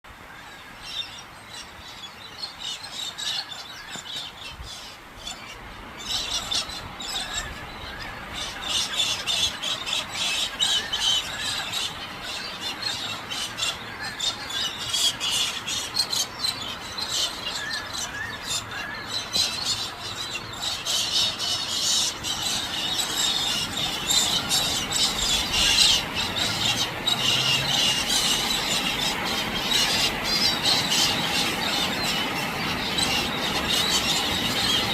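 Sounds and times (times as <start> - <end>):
birds screeching: 0.2 - 34.9.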